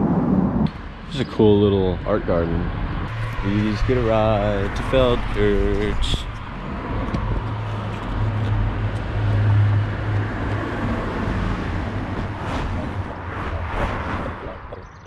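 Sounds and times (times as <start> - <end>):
car passing: 0.8 - 14.9.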